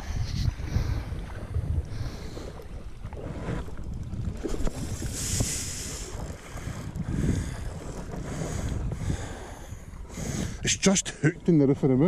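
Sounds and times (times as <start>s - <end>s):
wind buffeting microphone: 0.0s - 12.0s
small waves lapping: 0.6s - 12.0s.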